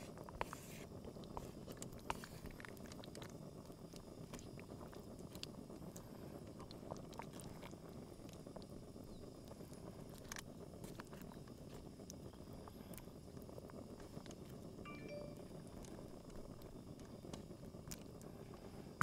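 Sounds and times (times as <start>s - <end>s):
stew simmering in a pot: 0.0s - 19.0s.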